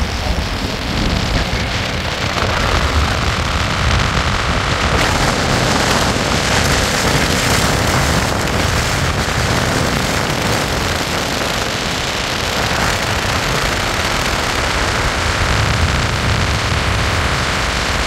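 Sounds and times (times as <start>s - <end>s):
wind and road noise: 0.0s - 18.0s
wind buffeting microphone: 0.0s - 18.0s.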